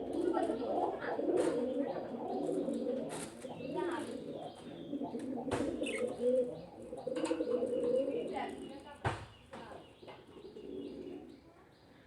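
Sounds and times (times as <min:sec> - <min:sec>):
birds warbling and cooing: 0:00.0 - 0:12.0.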